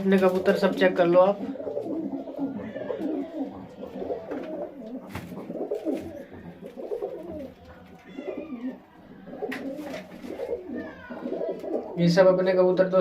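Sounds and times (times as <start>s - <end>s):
pigeons cooing: 0.0s - 12.1s.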